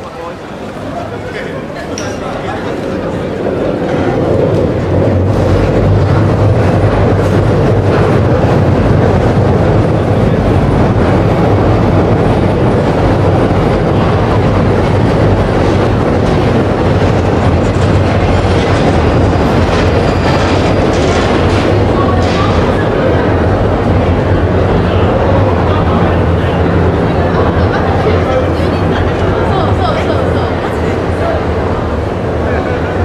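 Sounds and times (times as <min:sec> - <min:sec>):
train rumbling on elevated track: 0:00.0 - 0:33.0.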